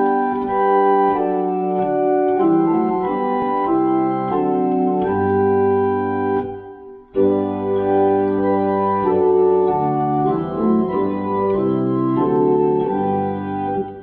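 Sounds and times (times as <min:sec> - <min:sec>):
organ playing a hymn: 0:00.0 - 0:14.0.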